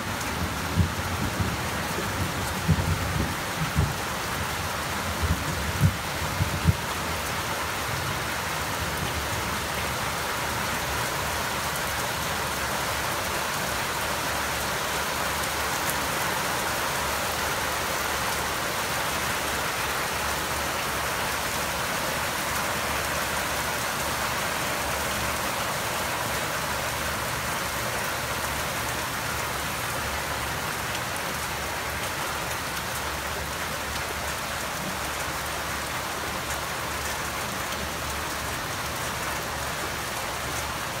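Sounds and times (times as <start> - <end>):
rain hiss: 0.0 - 41.0.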